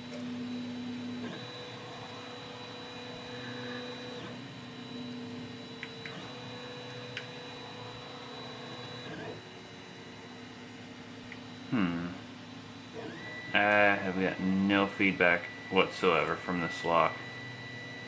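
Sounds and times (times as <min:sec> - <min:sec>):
electrical hum with high whine: 0:00.0 - 0:18.0.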